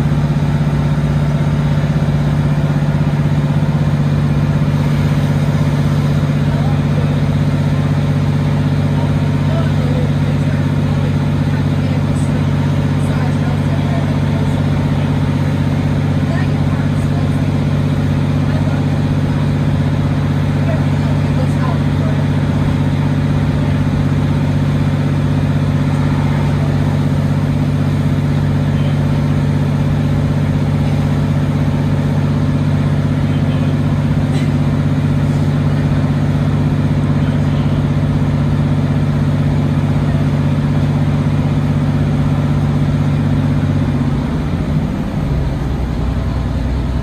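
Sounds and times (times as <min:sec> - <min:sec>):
train diesel engine running: 0:00.0 - 0:47.0.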